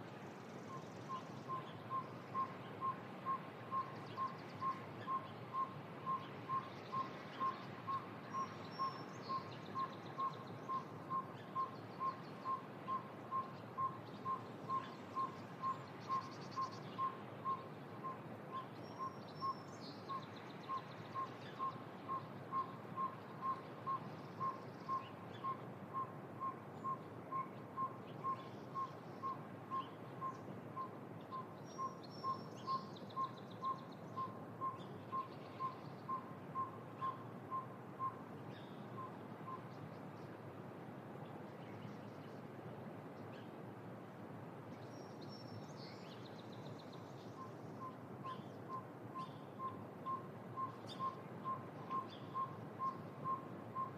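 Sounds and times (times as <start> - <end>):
background hiss: 0.0 - 53.9.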